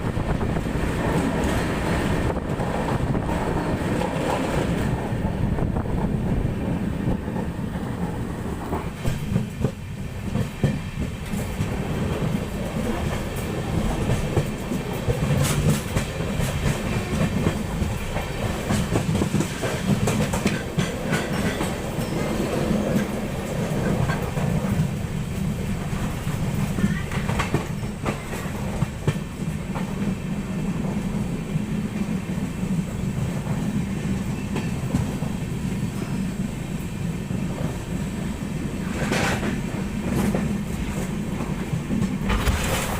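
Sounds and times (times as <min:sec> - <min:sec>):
train rumbling along track: 0:00.0 - 0:42.9.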